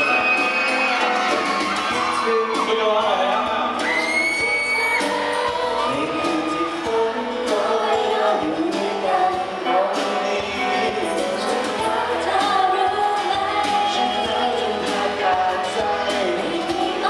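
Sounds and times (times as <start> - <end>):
acoustic guitar: 0.0 - 17.0
bass guitar: 0.0 - 17.0
man and woman singing duet: 0.0 - 17.0.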